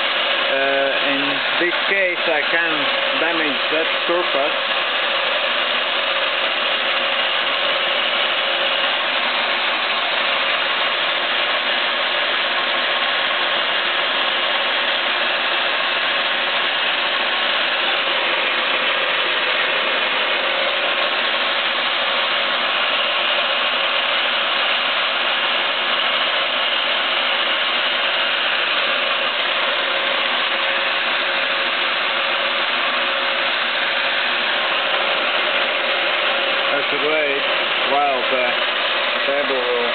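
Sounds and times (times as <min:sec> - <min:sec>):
milling machine cutting metal: 0:00.0 - 0:39.9.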